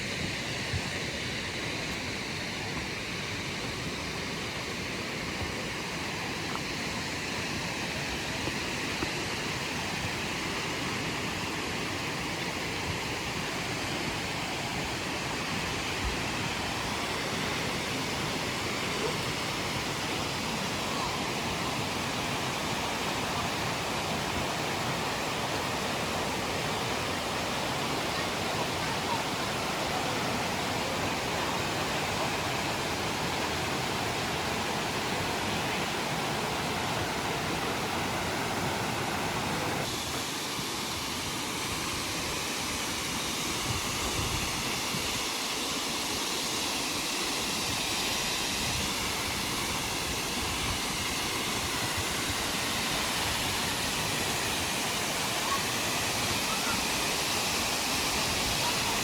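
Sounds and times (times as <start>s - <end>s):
rushing mountain water: 0.0s - 59.0s.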